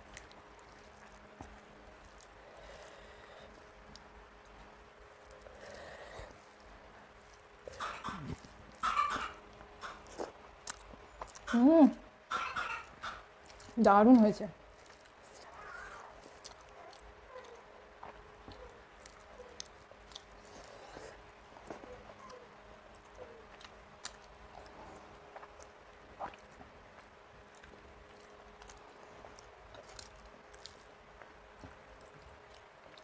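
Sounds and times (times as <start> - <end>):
chewing food: 0.0 - 33.0.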